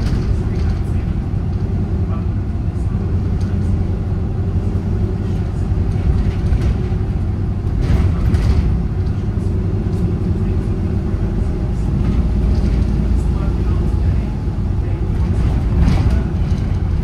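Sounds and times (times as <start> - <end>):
bus diesel engine running: 0.0 - 17.0
tyre and road noise: 0.0 - 17.0.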